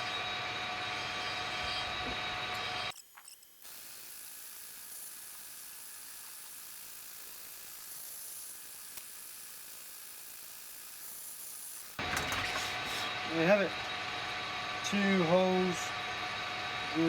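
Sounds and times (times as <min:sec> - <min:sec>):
electric drill whine: 0:00.0 - 0:17.0.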